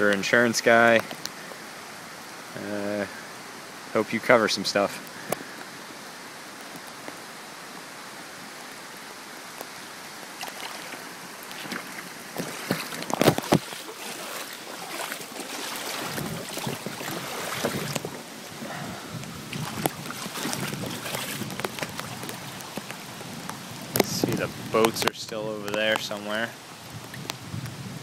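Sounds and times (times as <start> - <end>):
floodwater rushing: 0.0 - 27.6
water splashing and sloshing: 0.0 - 27.7.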